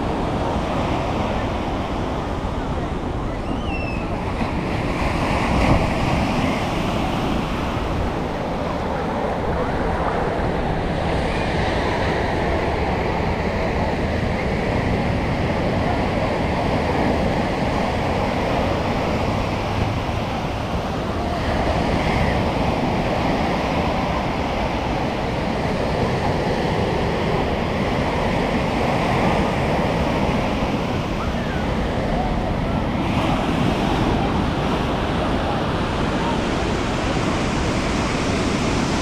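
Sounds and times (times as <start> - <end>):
ocean surf breaking on sand: 4.0 - 39.0.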